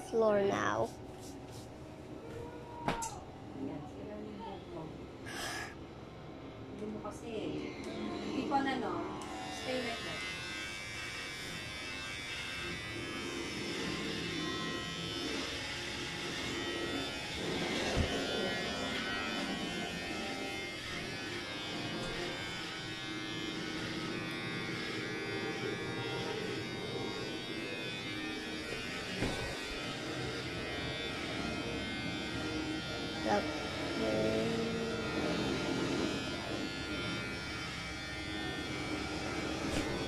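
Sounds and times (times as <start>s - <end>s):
electric hair clippers buzzing: 7.6s - 40.0s.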